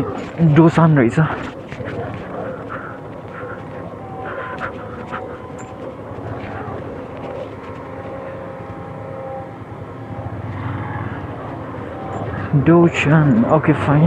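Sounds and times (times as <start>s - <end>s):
engine droning: 0.0s - 14.0s
faint steady whine: 0.0s - 14.0s.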